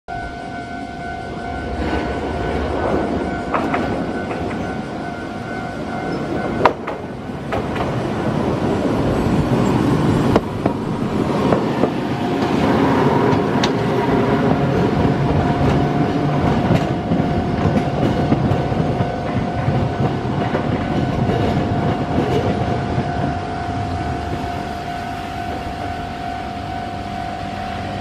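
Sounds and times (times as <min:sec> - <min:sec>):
tram rumbling along track: 0:00.1 - 0:28.0
tram wheels clicking over rails: 0:00.4 - 0:28.0.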